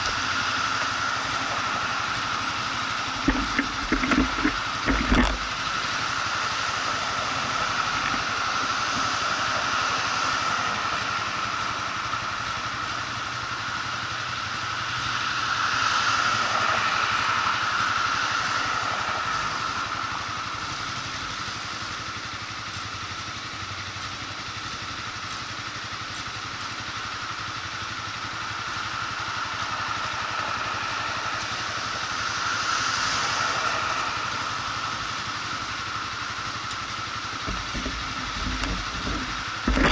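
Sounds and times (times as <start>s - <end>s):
motorcycle running: 0.0s - 39.9s.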